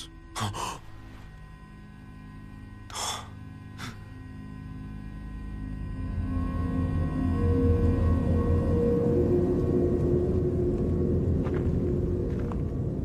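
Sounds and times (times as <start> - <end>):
soft low drone: 0.0 - 13.0.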